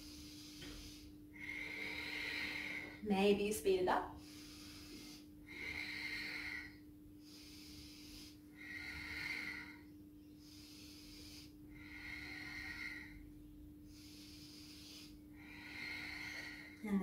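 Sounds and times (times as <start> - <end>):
woman breathing: 0.0 - 3.3, 4.1 - 17.0.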